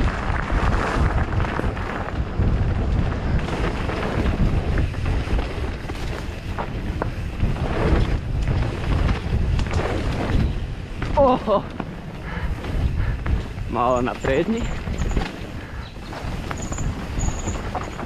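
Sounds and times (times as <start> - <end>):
mountain bike rattling on dirt trail: 0.0 - 18.0
wind buffeting microphone: 0.0 - 18.0.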